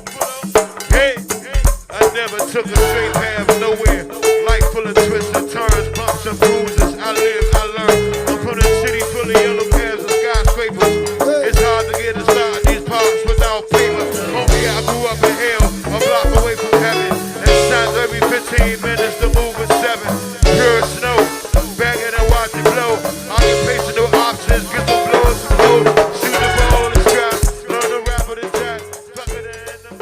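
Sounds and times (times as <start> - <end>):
bass line: 0.0 - 30.0
drum beat: 0.0 - 30.0.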